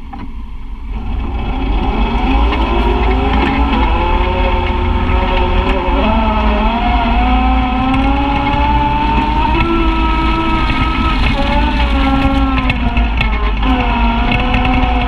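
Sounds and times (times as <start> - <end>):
low rumble: 0.0 - 15.0
utility vehicle engine running: 0.0 - 15.0
vehicle knocking over bumps: 1.2 - 15.0.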